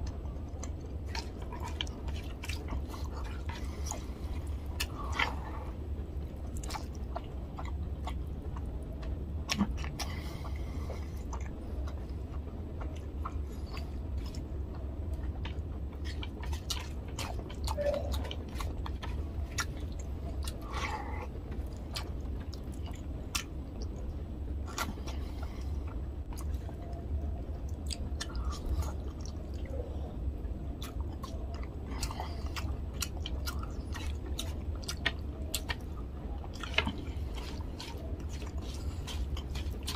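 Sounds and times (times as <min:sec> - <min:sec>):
steady low hum: 0:00.0 - 0:39.9
wet chewing mouth sounds: 0:00.0 - 0:39.9.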